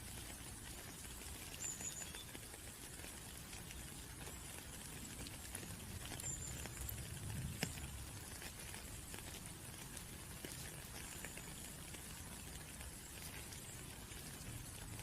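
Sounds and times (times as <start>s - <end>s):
raindrops pattering: 0.0s - 15.0s
water drips: 0.0s - 15.0s.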